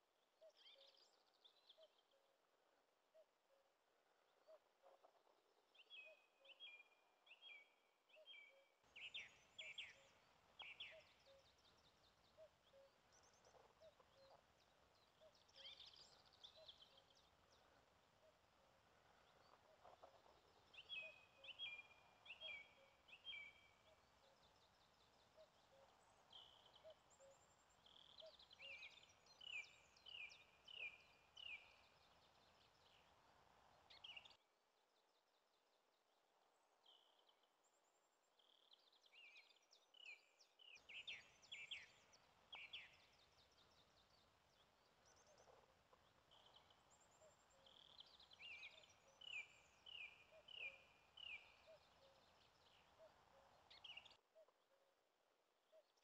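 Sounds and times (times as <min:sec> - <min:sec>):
songbird song phrase: 0:00.0 - 0:56.0.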